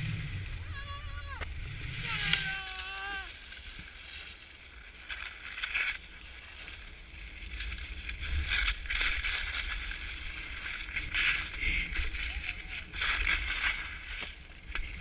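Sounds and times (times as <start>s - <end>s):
skis scraping over snow: 0.0s - 15.0s
wind rumble on microphone: 0.0s - 15.0s.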